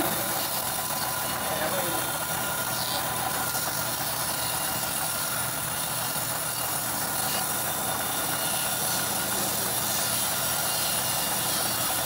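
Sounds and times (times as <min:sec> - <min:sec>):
band saw cutting log: 0:00.0 - 0:12.0.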